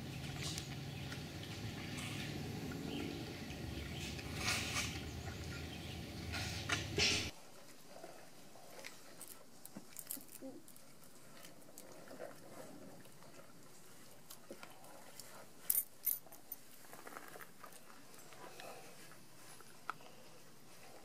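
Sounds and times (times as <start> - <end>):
bear cubs eating from a bowl: 0.0 - 21.0.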